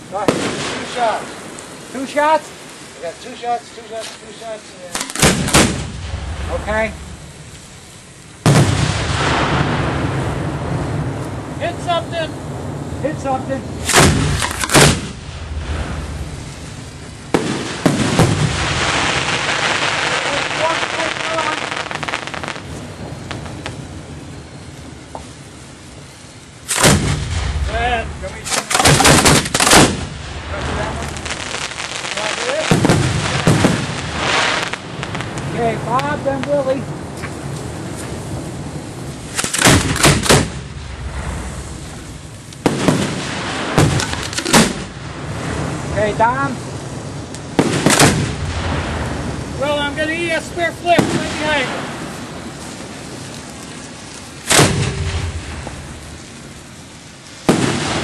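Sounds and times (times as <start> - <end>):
firework bangs: 0.0 - 58.0
firework crackling: 0.0 - 58.0
steady hiss: 0.0 - 58.0.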